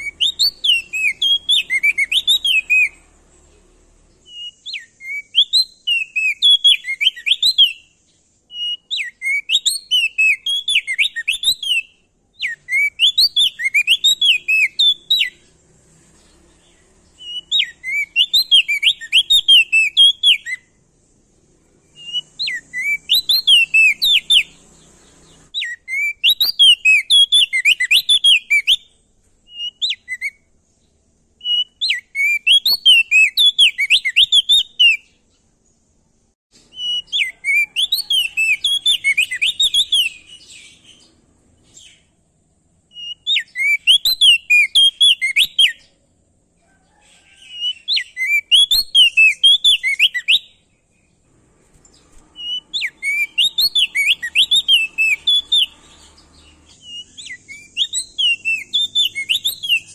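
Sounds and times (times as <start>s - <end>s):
songbird singing whistled phrases: 0.0s - 3.1s, 4.1s - 15.6s, 16.3s - 20.8s, 21.7s - 35.4s, 36.6s - 42.1s, 42.9s - 46.0s, 46.9s - 51.2s, 51.9s - 59.9s.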